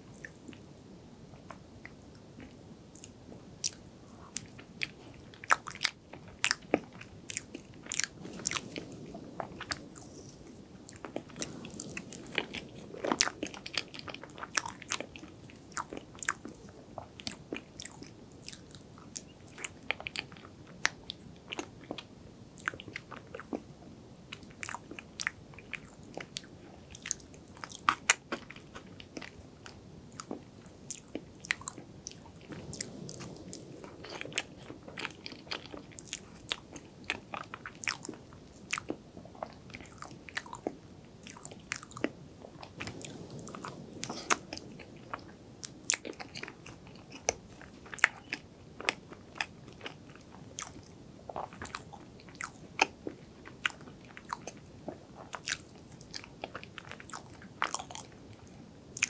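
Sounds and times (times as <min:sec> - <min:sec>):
wet chewing: 0:02.4 - 0:20.5, 0:24.6 - 0:58.2.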